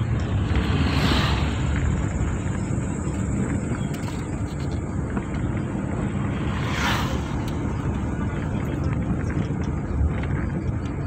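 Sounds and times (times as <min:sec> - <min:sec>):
vehicle rumbling on dirt road: 0:00.0 - 0:11.0.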